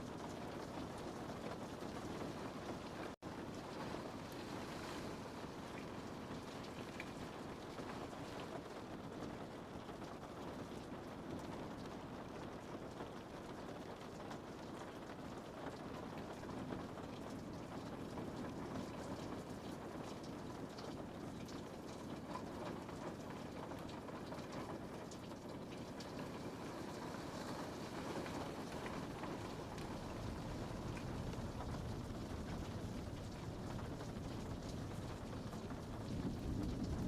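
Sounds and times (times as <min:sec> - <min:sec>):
rain pattering on a window: 0:00.0 - 0:37.0.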